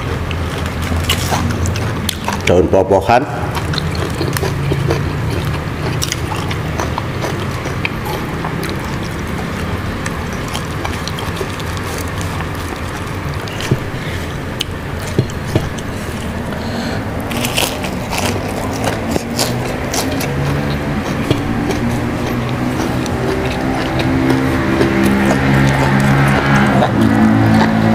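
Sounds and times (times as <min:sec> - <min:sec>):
chewing raw vegetables: 0:00.0 - 0:27.9
low background hum: 0:00.0 - 0:27.9.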